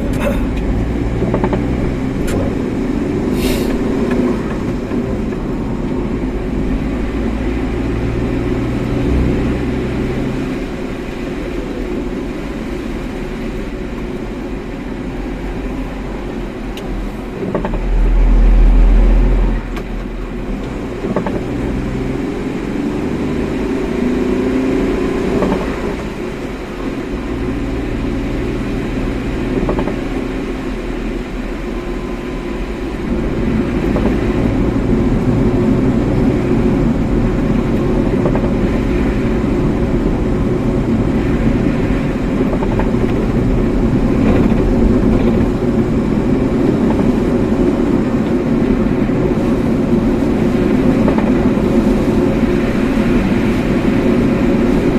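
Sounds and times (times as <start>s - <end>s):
car engine and tyre road noise: 0.0s - 54.9s.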